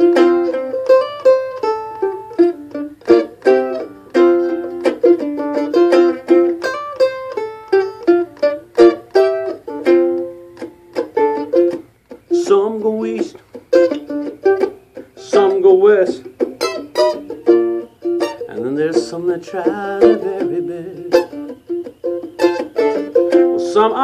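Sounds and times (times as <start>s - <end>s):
mandolin picked solo: 0.0s - 24.0s.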